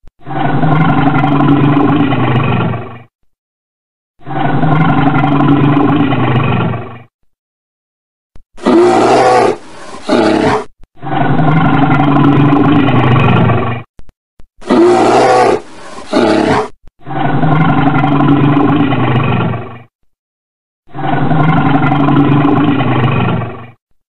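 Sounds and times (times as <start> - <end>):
bear roaring and growling: 0.2 - 3.1, 4.2 - 7.1, 8.6 - 13.9, 14.6 - 19.9, 20.9 - 23.8.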